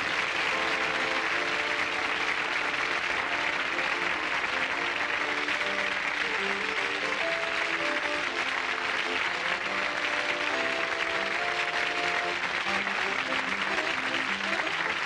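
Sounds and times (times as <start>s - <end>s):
audience applauding: 0.0s - 15.0s
instrumental theme music: 0.0s - 15.0s.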